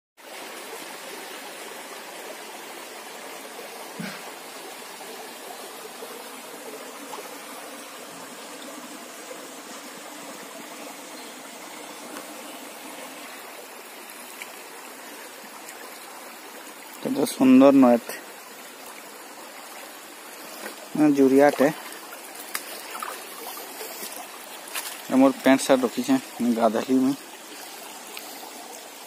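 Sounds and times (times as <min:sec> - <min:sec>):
stream running over rocks: 0:00.2 - 0:29.0.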